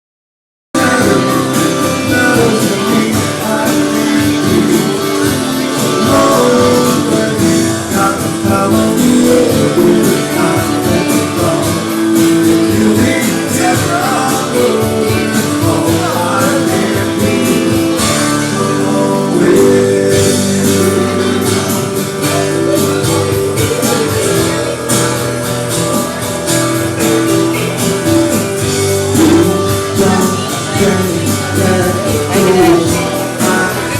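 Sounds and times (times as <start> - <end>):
song with guitar: 0.8 - 33.9.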